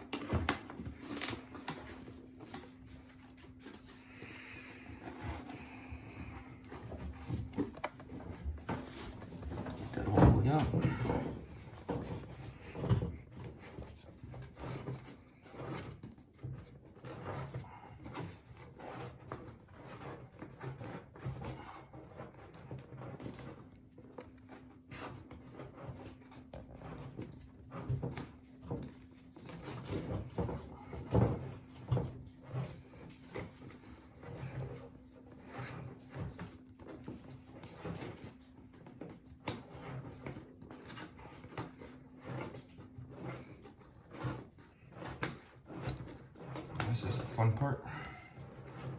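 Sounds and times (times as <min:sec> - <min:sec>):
cable rubbing and scraping: 0:00.0 - 0:23.7, 0:24.9 - 0:48.9.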